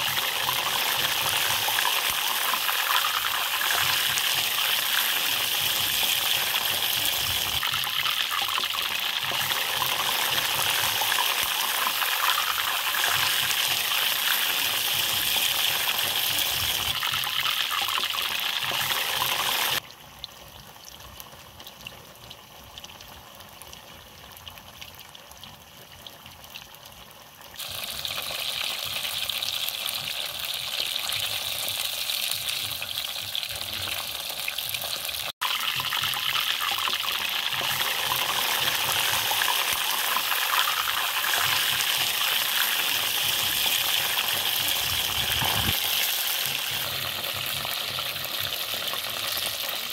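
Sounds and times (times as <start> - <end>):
chicken deep-frying in oil: 0.0 - 49.9.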